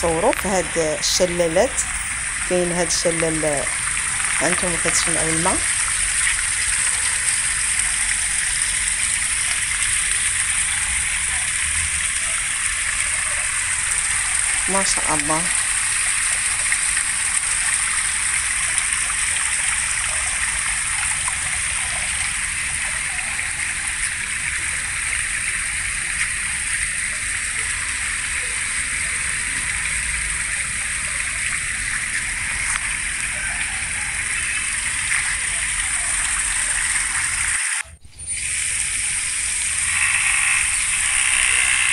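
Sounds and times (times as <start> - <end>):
water splashing into stone pools: 1.7 - 37.8.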